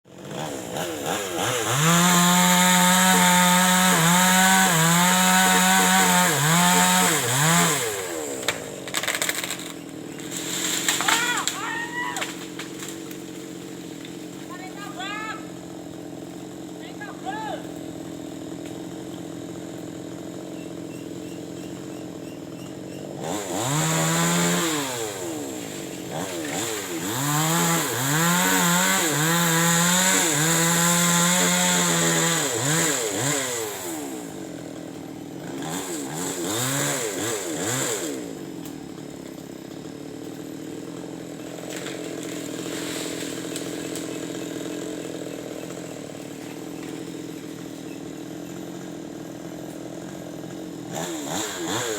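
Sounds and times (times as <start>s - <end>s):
chainsaw engine idling and revving: 0.0s - 51.9s.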